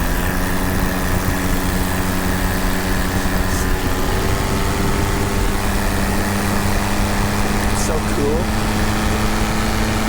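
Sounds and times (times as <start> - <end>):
paramotor engine drone: 0.0 - 10.0.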